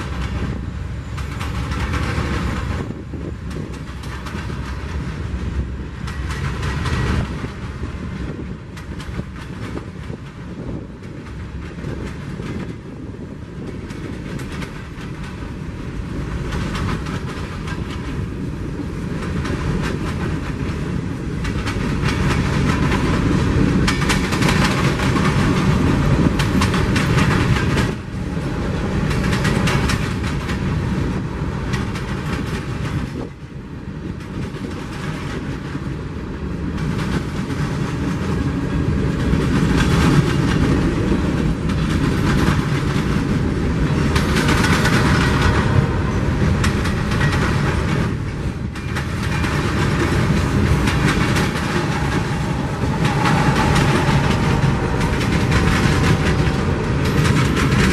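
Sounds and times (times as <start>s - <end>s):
freight train wheels clacking: 0.0s - 57.9s.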